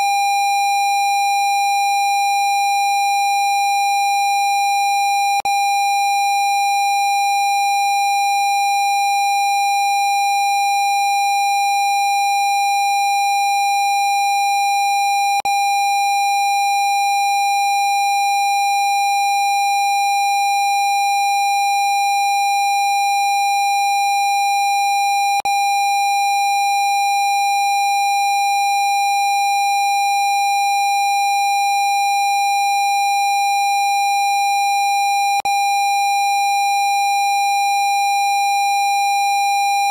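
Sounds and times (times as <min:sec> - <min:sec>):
electronic sine tone: 0:00.0 - 0:39.9.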